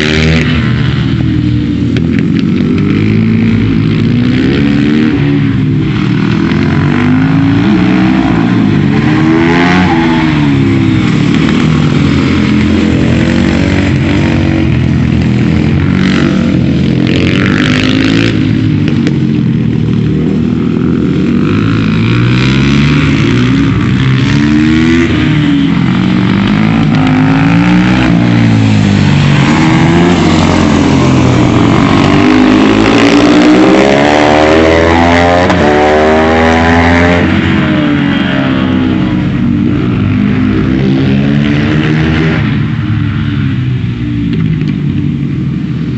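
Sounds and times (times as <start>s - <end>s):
motorcycle engines revving past: 0.0s - 45.9s.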